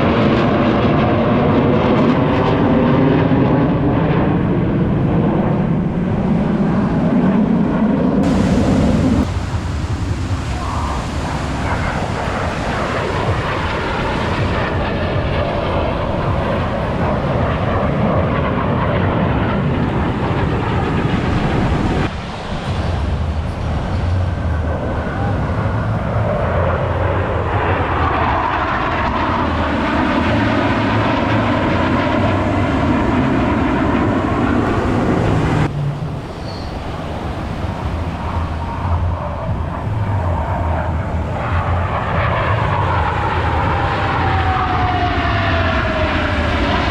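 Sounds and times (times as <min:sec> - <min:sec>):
jet engines passing overhead: 0:00.0 - 0:46.9.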